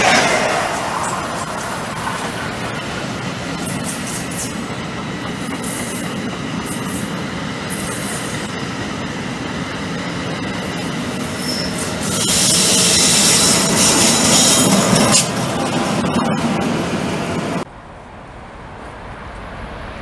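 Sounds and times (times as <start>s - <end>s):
locomotive high hiss: 0.0s - 8.6s, 10.0s - 17.6s
train wheels rumbling on rail: 0.0s - 17.7s.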